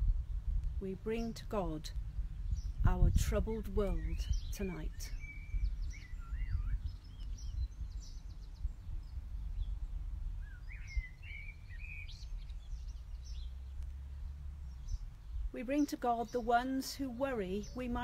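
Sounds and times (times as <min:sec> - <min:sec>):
low rumble: 0:00.0 - 0:18.0
songbirds warbling: 0:00.0 - 0:18.0.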